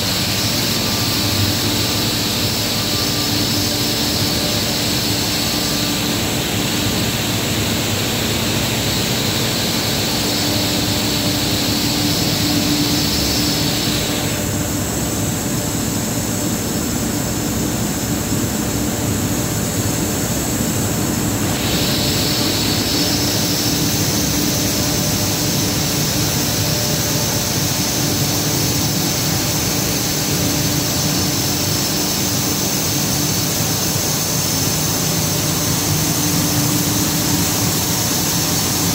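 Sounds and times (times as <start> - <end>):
industrial machine noise: 0.0 - 38.9.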